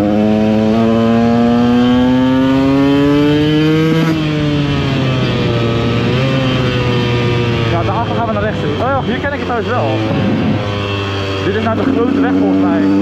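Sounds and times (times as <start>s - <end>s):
two-stroke motorcycle engine revving: 0.0s - 13.0s.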